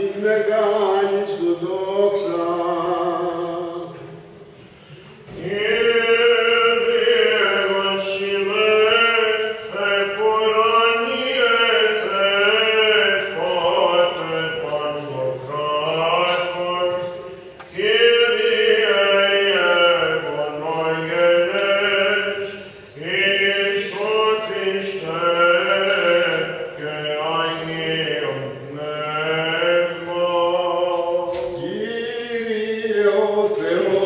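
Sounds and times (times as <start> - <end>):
person chanting unaccompanied: 0.0 - 4.2, 5.3 - 34.0.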